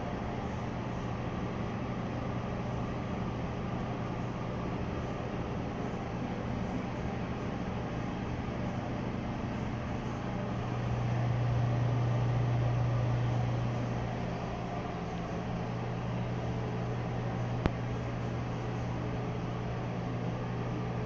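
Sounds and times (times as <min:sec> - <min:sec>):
exhaust fan humming: 0:00.0 - 0:21.0.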